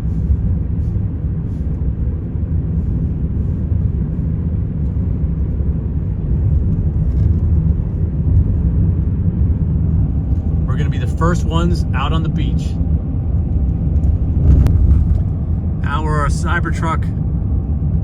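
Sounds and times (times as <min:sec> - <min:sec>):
tyre rumble inside cabin: 0:00.0 - 0:18.0.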